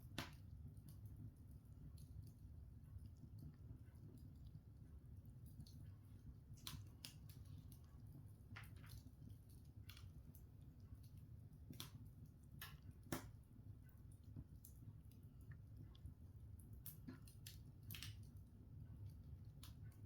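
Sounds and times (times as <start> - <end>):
burning wood popping: 0.0 - 20.0
log fire crackling: 0.0 - 20.0.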